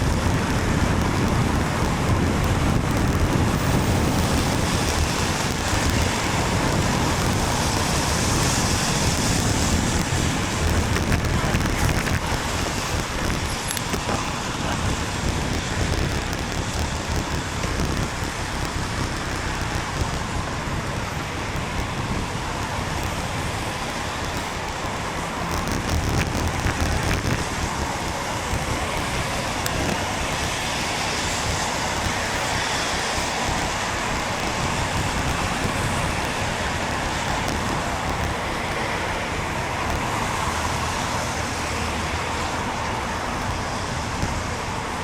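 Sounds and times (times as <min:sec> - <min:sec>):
rain hissing on wet road: 0:00.0 - 0:45.0
wind rumble on microphone: 0:00.0 - 0:45.0.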